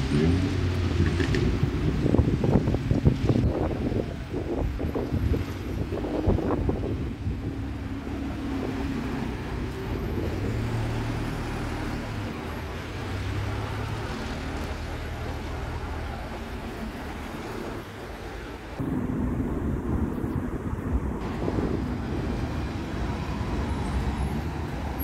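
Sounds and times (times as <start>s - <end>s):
diesel bus engine drone: 0.0s - 25.0s
street traffic: 0.0s - 25.0s.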